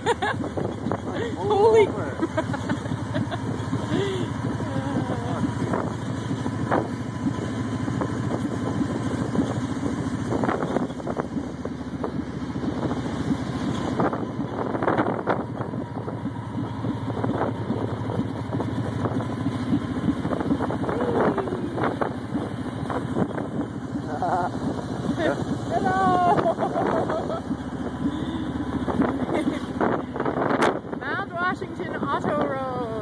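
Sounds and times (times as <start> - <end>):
vehicle engine running: 0.0 - 33.0
wind buffeting microphone: 0.0 - 33.0.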